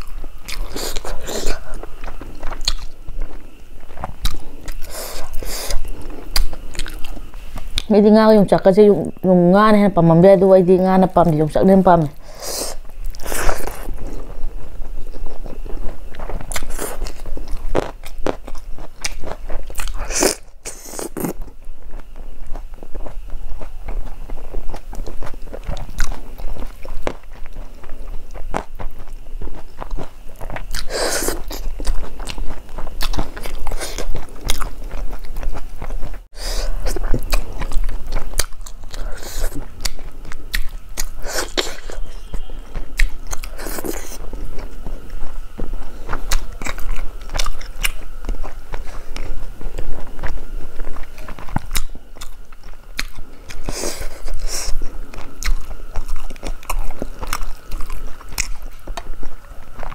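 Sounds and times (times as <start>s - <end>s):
wet chewing and lip smacking: 0.0s - 7.9s, 12.8s - 59.9s
food crunching: 0.0s - 8.0s, 12.2s - 59.9s.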